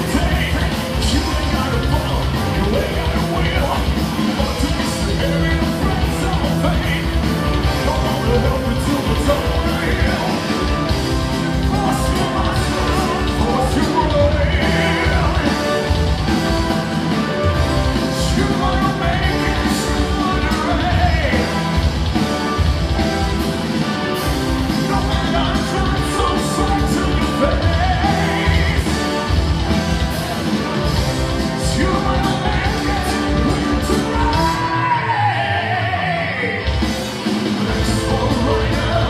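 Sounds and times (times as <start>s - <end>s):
person singing: 0.0s - 22.4s, 24.7s - 29.7s, 30.6s - 36.8s, 37.7s - 39.0s
distorted electric guitars: 0.0s - 39.0s
drums: 0.0s - 39.0s
keyboards: 0.0s - 39.0s.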